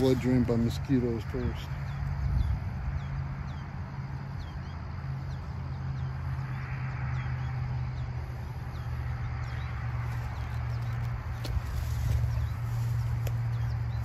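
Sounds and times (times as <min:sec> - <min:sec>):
small bird chirping: 0:00.0 - 0:14.0
steady low hum: 0:00.0 - 0:14.0.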